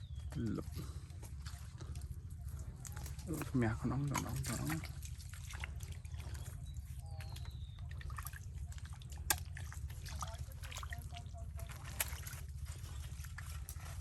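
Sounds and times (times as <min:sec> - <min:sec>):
steady low rumble: 0:00.0 - 0:14.0
water trickling and dripping on mud: 0:00.0 - 0:14.0.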